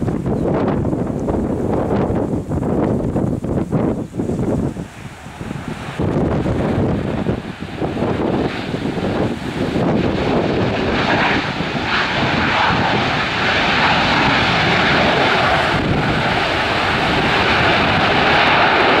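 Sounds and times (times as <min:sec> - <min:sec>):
jet engine rush: 0:00.0 - 0:19.0.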